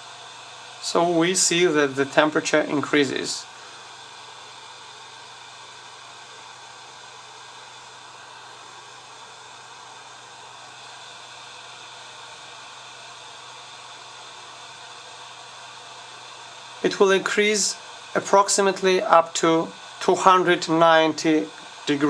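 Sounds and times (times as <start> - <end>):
heat gun blower fan: 0.0 - 22.0.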